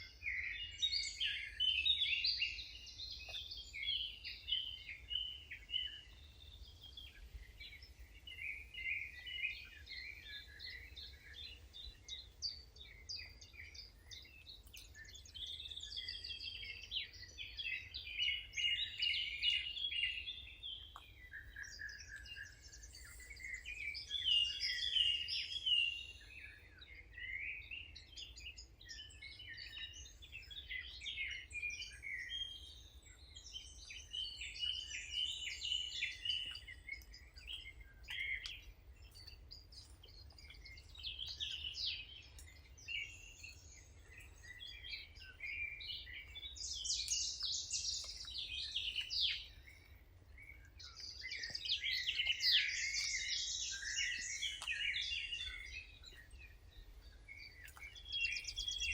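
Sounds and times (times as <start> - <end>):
small birds singing and chirping: 0.0 - 58.9.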